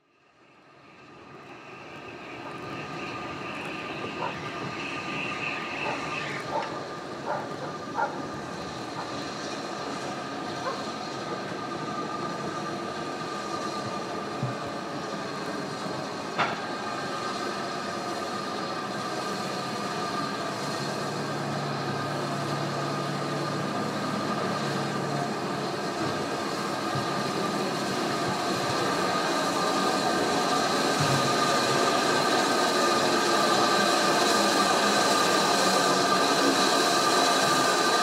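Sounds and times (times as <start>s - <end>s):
steam locomotive rumble and hiss: 0.0s - 38.0s.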